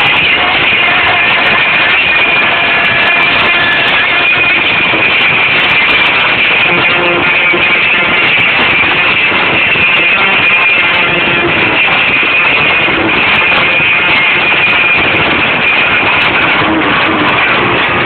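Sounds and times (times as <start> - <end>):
electric guitar: 0.0 - 18.0.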